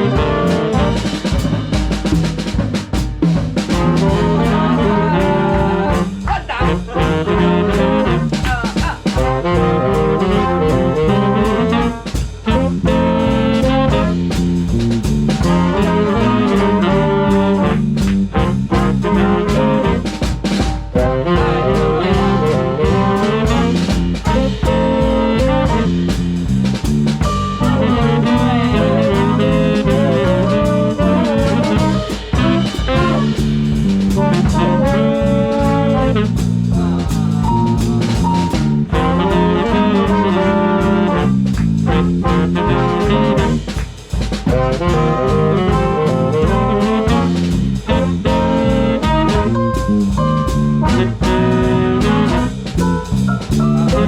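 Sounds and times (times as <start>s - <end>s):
swing jazz band playing: 0.0s - 54.0s.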